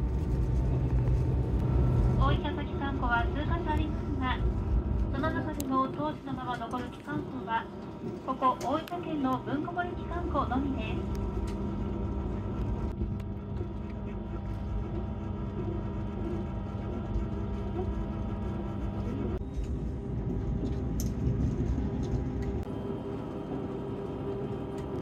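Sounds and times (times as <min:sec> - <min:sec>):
railcar engine and wheels rumbling: 0:00.0 - 0:25.0.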